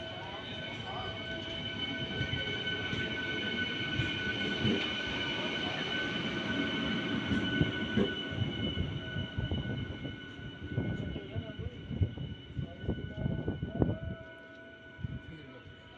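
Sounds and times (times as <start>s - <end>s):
train clanks and knocks: 0.0s - 15.9s
train rumbling past: 0.0s - 15.9s.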